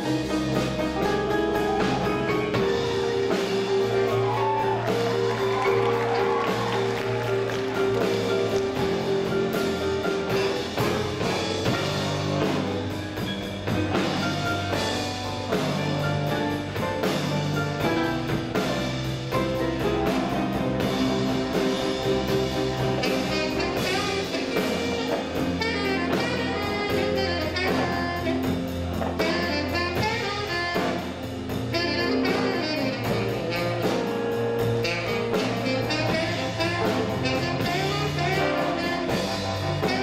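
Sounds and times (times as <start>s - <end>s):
live blues band playing: 0.0s - 40.0s.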